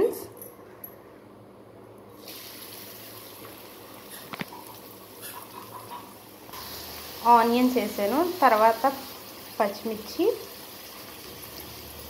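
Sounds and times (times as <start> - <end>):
onions sizzling in hot oil: 2.2 - 12.0.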